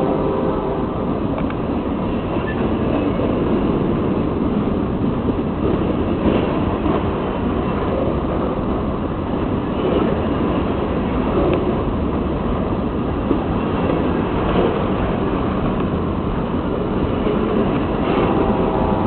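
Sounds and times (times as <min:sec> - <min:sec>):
freight train wheels rumbling on track: 0:00.0 - 0:19.0.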